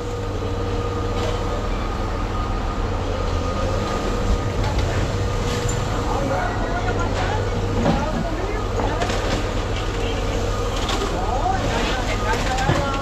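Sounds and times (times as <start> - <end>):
heavy machinery engine rumble: 0.0 - 13.0
high machinery whine: 0.0 - 13.0.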